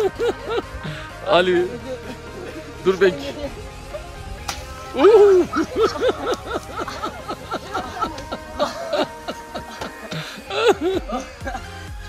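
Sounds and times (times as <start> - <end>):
people laughing: 0.0 - 11.9.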